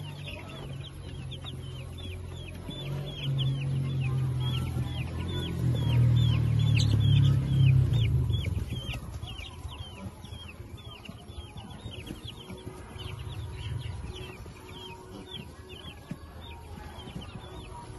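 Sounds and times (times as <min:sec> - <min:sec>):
chicks peeping: 0:00.0 - 0:17.9.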